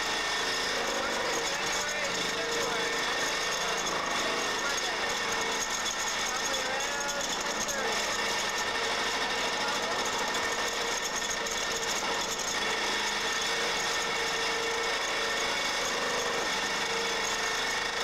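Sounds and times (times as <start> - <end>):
pile-driving hammer running: 0.0 - 18.0.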